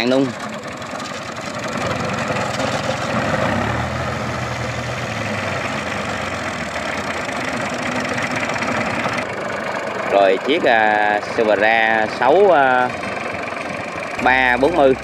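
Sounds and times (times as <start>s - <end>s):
deep engine hum: 0.0s - 15.0s
tractor diesel engines idling: 0.0s - 15.0s.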